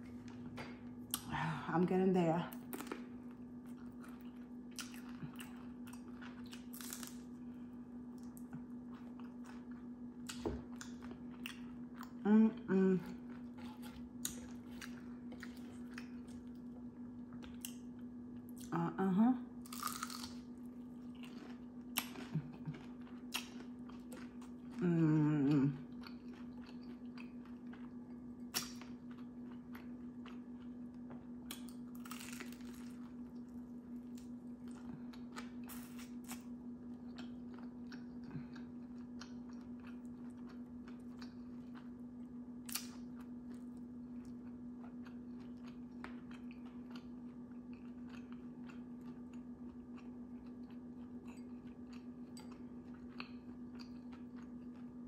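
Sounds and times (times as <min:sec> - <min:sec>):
low hum: 0:00.0 - 0:55.0
person chewing crispy food: 0:02.5 - 0:18.7, 0:19.6 - 0:55.0.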